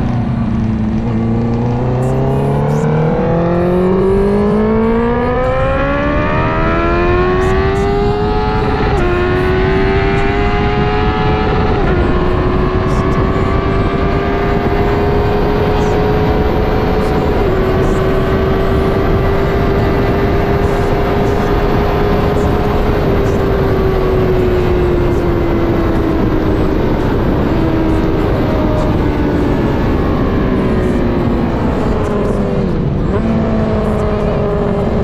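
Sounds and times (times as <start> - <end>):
motorcycle engine revving: 0.0 - 35.0
wind rush on microphone: 0.0 - 35.0.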